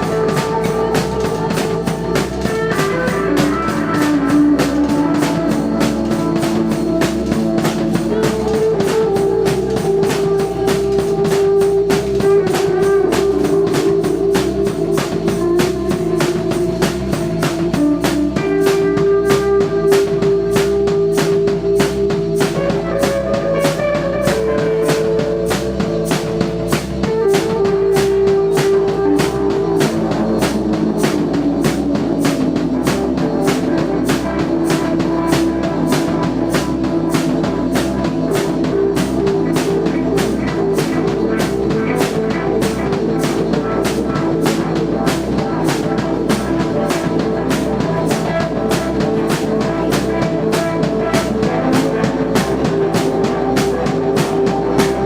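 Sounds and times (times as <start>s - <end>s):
drum-kit beat: 0.0s - 55.0s.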